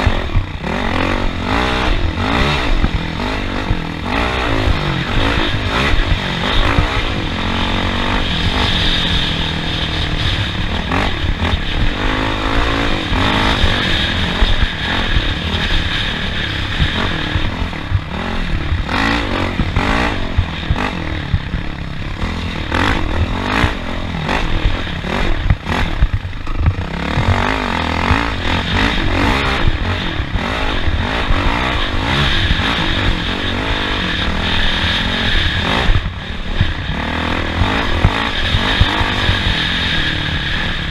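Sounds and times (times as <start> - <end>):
racing engine revving: 0.0 - 40.9.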